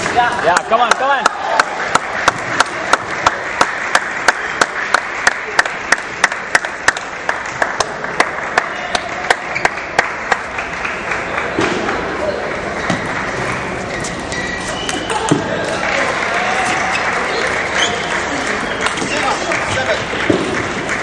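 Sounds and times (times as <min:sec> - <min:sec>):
spectators clapping in rhythm: 0:00.0 - 0:21.0.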